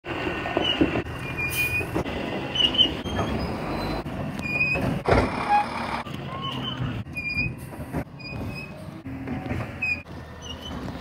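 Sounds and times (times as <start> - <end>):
garbage truck running: 0.0 - 11.0
high-pitched squeaks from truck: 0.6 - 11.0.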